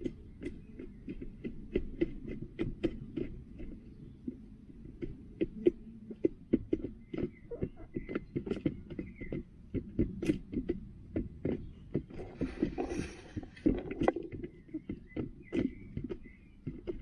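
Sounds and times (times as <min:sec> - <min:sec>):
hen rustling: 0:00.0 - 0:17.0
hens pecking taps: 0:00.0 - 0:17.0.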